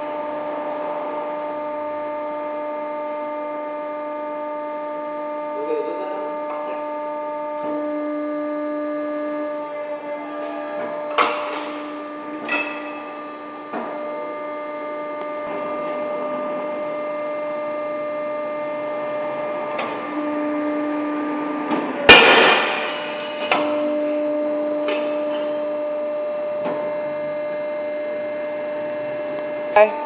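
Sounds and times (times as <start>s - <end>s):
motor and pump hum: 0.0s - 30.0s.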